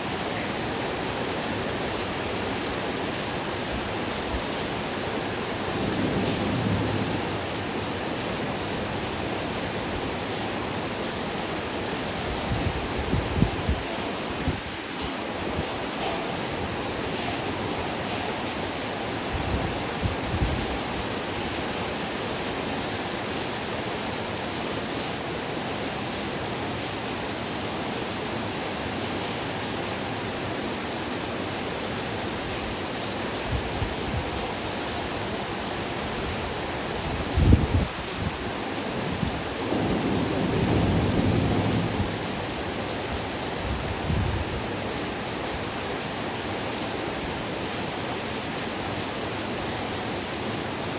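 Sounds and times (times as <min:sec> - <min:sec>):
heavy rain hissing: 0:00.0 - 0:50.9.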